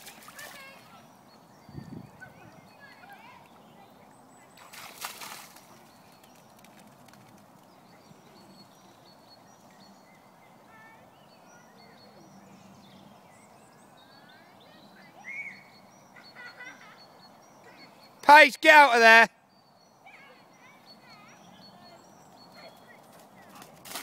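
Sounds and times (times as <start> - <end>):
distant high-pitched calls and chirps: 0.0 - 23.8.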